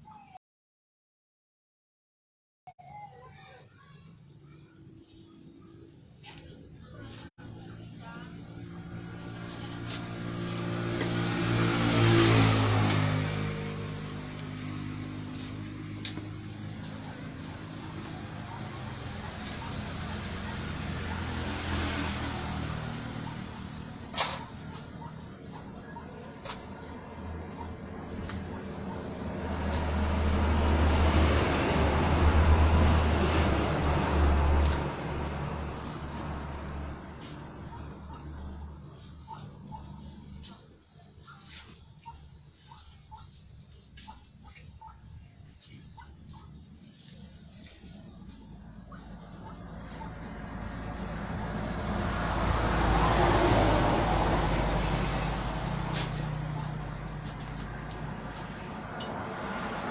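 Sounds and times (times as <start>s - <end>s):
vehicle passing by: 6.2s - 59.9s.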